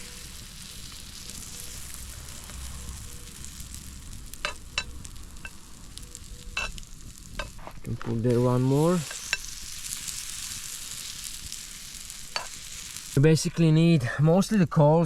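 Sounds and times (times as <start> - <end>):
batter sizzling in oil: 0.0 - 13.5.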